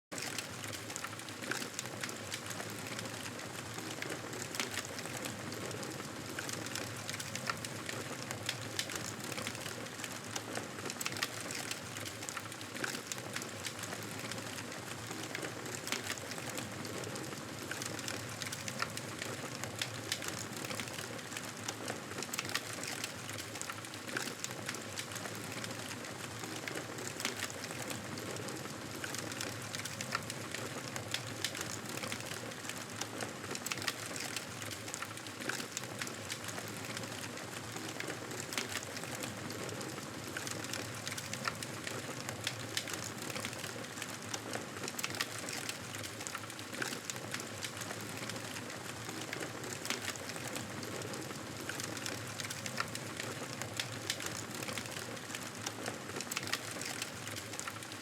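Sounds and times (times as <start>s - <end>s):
wood fire crackling: 0.2s - 58.0s.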